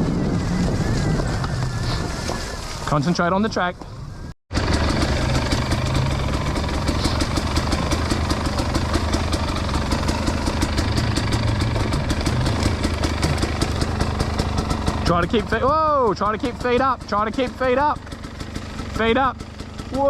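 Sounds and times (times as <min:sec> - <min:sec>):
dirt bike engine running: 0:00.0 - 0:03.5, 0:04.1 - 0:20.0.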